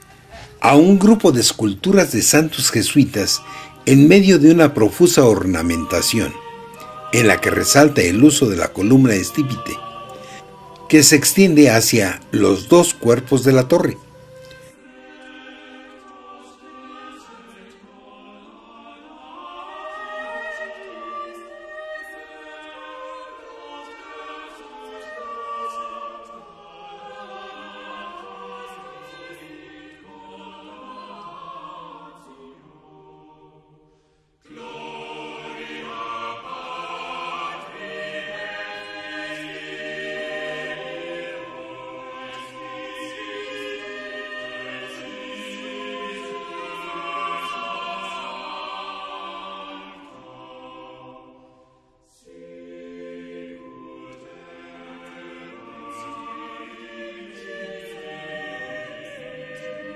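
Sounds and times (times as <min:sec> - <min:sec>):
choir singing sustained chords: 0:00.0 - 0:59.9.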